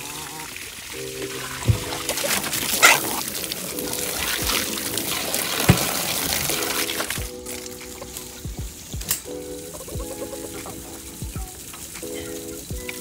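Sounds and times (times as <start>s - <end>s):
background music with held chords: 0.0s - 13.0s
hose water splashing into pan: 0.0s - 13.0s.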